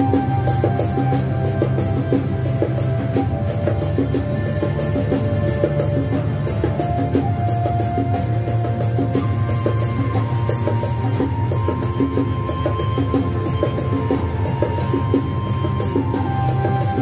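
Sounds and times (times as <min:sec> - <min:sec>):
bongos played by hand: 0:00.0 - 0:17.0
metal shaker: 0:00.0 - 0:17.0
recorded music track: 0:00.0 - 0:17.0.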